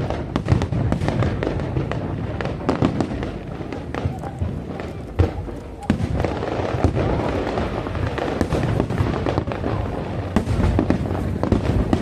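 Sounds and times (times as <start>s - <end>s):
fireworks crackling and popping: 0.0s - 12.0s
sharp loud fireworks cracks: 0.0s - 12.0s.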